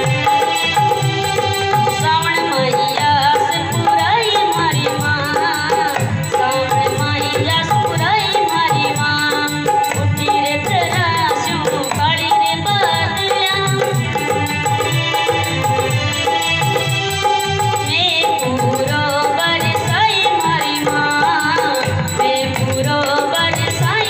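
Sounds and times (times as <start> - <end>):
hand drums: 0.0 - 24.0.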